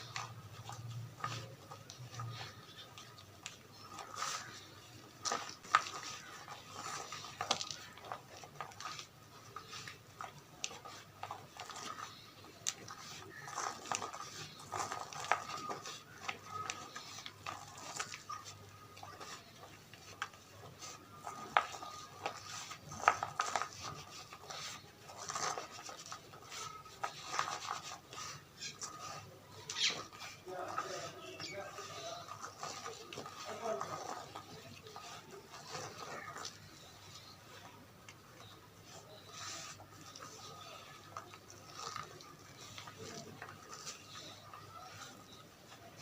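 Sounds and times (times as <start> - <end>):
chalk crumbled by hand: 0.0 - 46.0.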